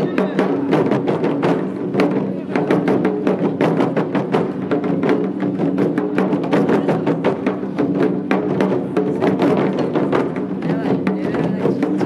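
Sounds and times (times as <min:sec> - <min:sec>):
taiko drums playing: 0:00.0 - 0:12.0.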